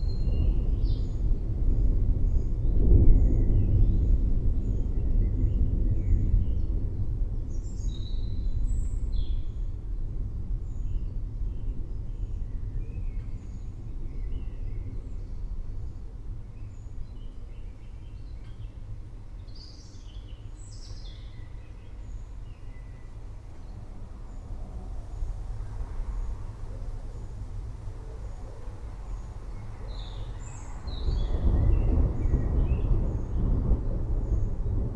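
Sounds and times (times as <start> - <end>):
thunder rumble: 0.0 - 17.6, 21.8 - 34.9.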